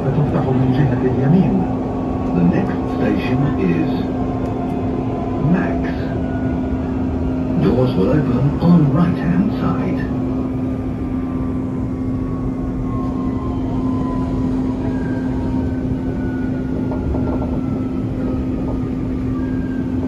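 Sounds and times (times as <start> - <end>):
train hum and rumble: 0.0 - 20.0.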